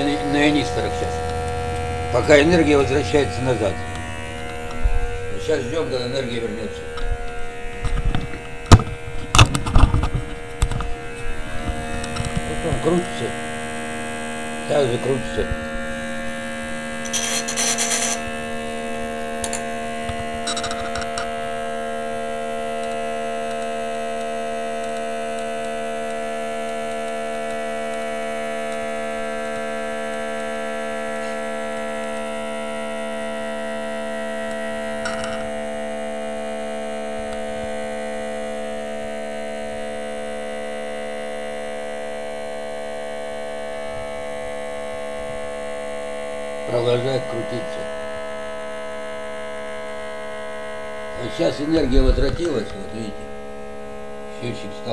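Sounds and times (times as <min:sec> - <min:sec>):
small electric motor humming: 0:00.0 - 0:54.9.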